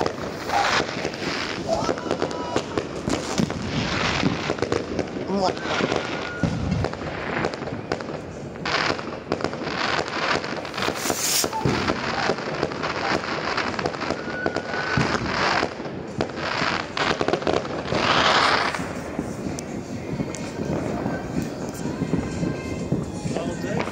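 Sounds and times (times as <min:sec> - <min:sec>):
fireworks bangs and pops: 0:00.0 - 0:23.9
hissing crackling firework bursts: 0:00.0 - 0:23.9.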